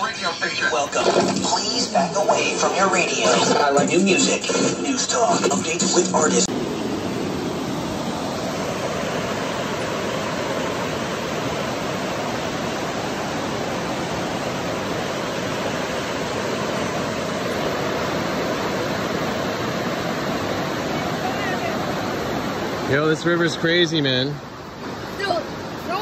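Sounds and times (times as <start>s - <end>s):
river rushing through rapids: 0.0s - 26.0s.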